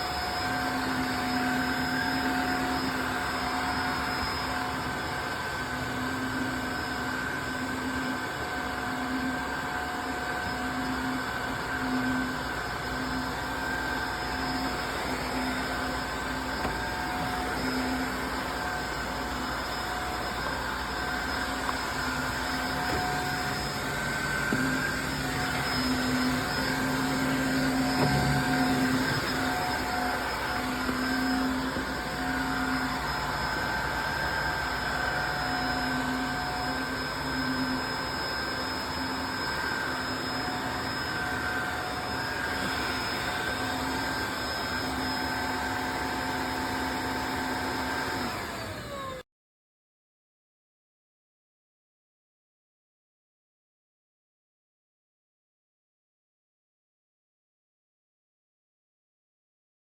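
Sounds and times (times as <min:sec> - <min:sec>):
vacuum cleaner motor running: 0:00.0 - 0:49.2.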